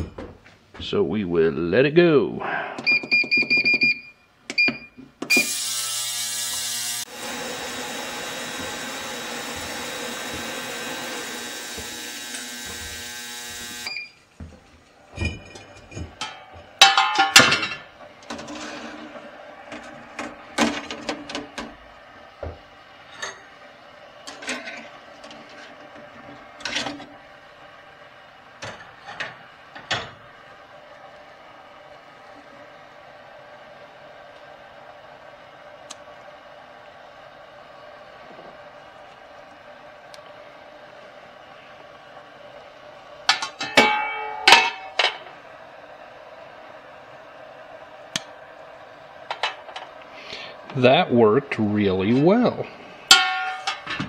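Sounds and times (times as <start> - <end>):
ultrasonic cleaner buzzing hiss: 5.2 - 14.6, 19.0 - 54.0.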